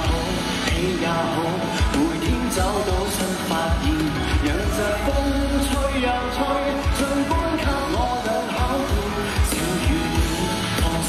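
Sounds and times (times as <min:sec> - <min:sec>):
backing music with drum beat: 0:00.0 - 0:11.0
man singing pop song: 0:00.0 - 0:11.0.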